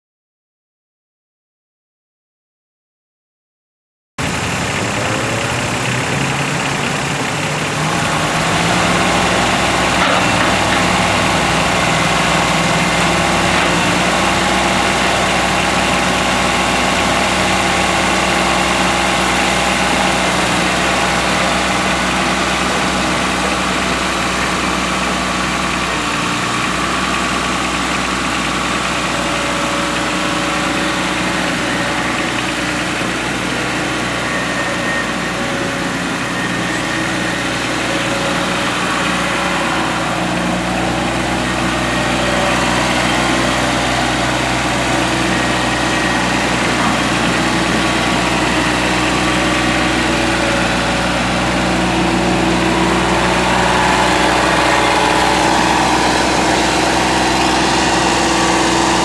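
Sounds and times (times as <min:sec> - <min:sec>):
tractor diesel engine running: 0:04.2 - 0:59.0.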